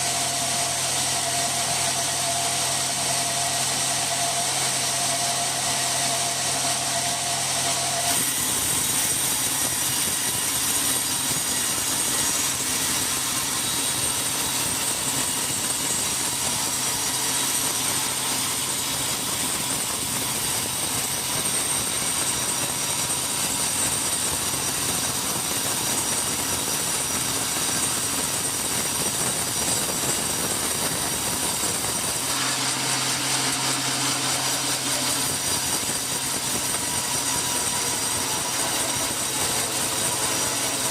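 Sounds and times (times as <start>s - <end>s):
saw blade cutting log: 0.0s - 40.9s
sawmill saw whining: 0.0s - 40.9s.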